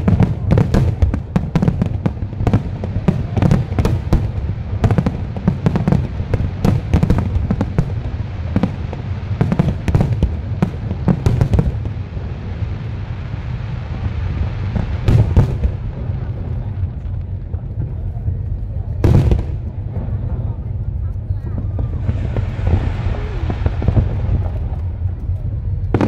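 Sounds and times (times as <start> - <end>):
continuous low rumble: 0.0 - 26.0
fireworks bangs: 0.0 - 26.0.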